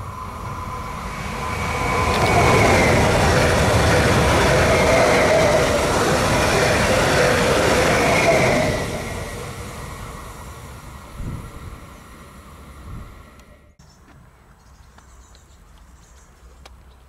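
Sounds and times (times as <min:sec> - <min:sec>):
train passing: 0:00.0 - 0:13.8
wavering whine: 0:00.0 - 0:13.8.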